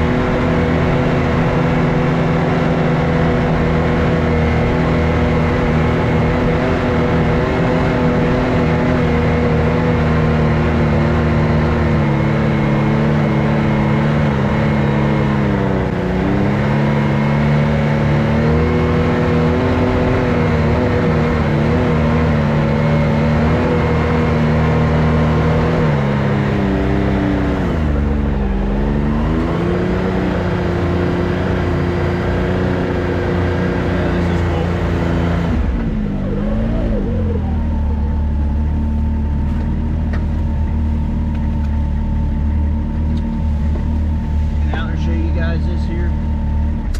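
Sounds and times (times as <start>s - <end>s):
off-road vehicle engine running: 0.0s - 46.9s.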